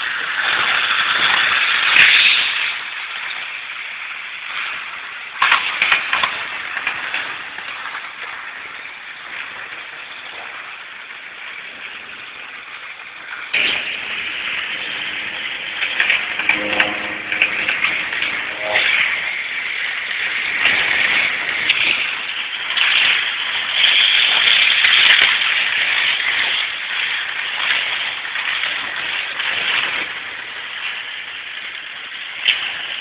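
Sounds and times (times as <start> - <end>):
model train rattling on track: 0.0 - 18.3, 19.0 - 33.0.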